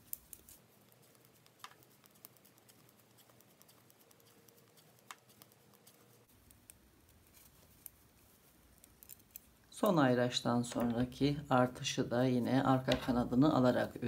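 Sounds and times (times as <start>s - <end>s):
knitting needles ticking: 0.0s - 11.5s.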